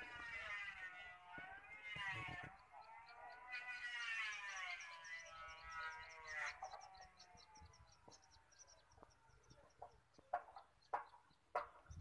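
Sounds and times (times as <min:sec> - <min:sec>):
small bird chirping: 0:01.8 - 0:12.0.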